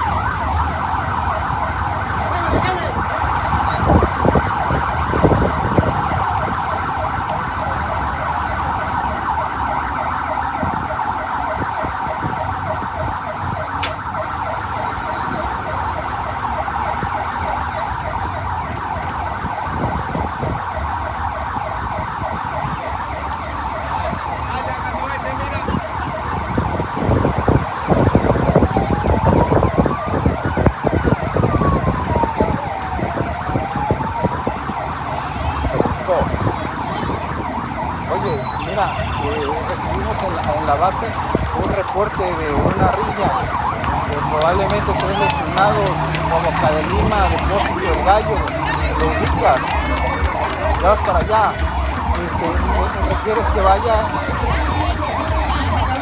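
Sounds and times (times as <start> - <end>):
emergency siren: 0.0 - 56.0
low street and engine rumble: 0.0 - 56.0.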